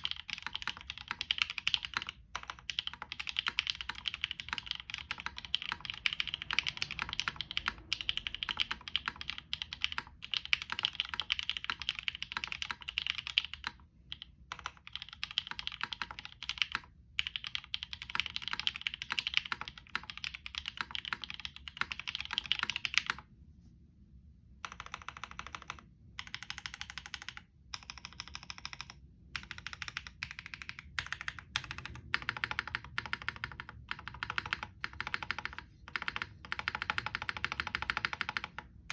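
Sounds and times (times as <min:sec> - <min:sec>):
typing on mechanical keyboard: 0:00.0 - 0:23.2, 0:24.6 - 0:38.9.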